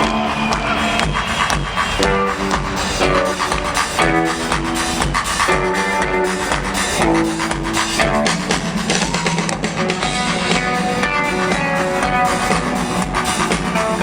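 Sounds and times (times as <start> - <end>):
live rock band: 0.0 - 14.0.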